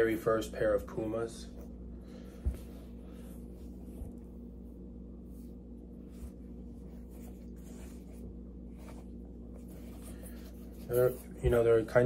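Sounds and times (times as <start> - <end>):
steady low hum: 0.0 - 12.0
rustling handling noise of shoe: 1.0 - 12.0.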